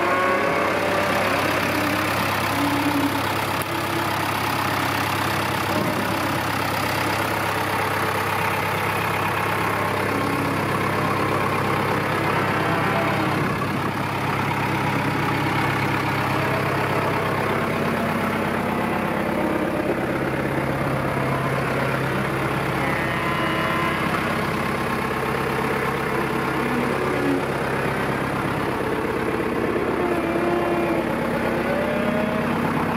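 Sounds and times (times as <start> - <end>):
tractor diesel engine idling: 0.0 - 32.9.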